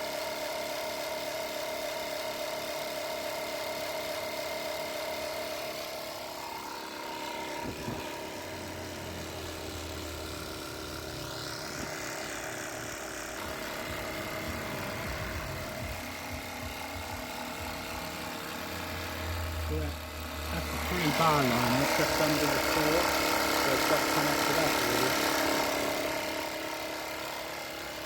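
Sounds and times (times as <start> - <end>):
air compressor droning: 0.0 - 28.0.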